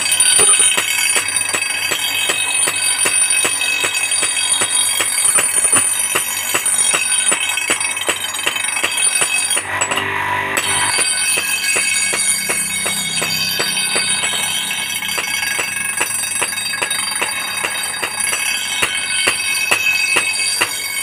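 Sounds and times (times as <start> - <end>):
grinding wheel metallic whine: 0.0 - 21.0.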